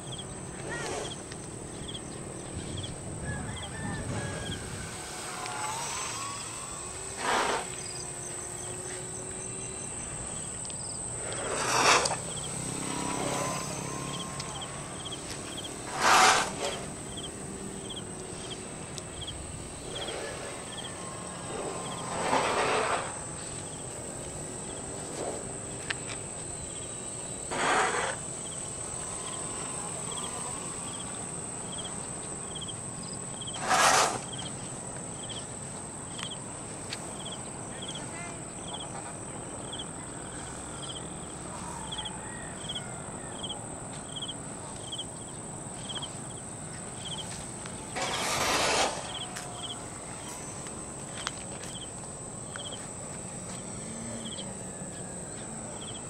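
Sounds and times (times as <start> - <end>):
crickets chirping: 0.0 - 56.0
high-pitched insect drone: 0.0 - 56.0.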